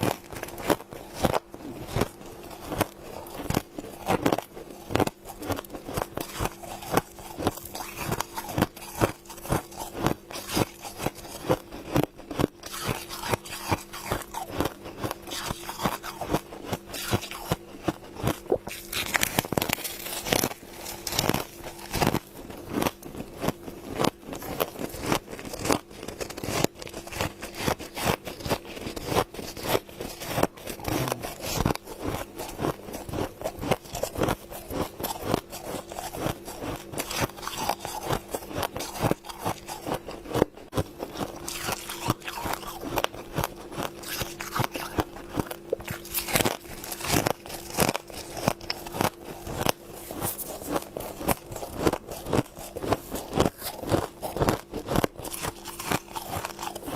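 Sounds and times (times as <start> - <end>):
faint steady hum: 0.0 - 56.9
frost being bitten and chewed: 0.0 - 56.9.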